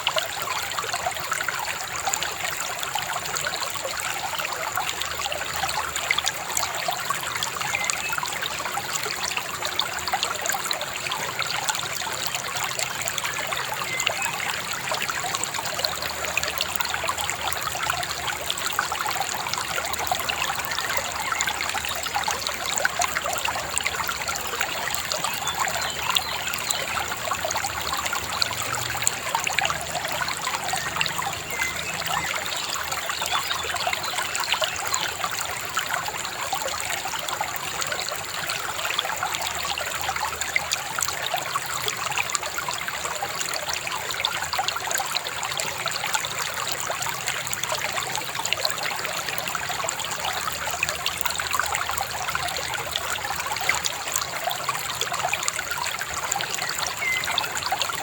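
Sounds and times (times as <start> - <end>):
shallow river babbling: 0.0 - 58.0.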